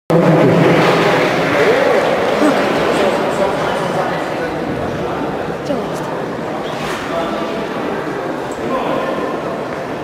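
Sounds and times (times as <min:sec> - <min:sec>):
indistinct voices and chatter: 0:01.4 - 0:09.7.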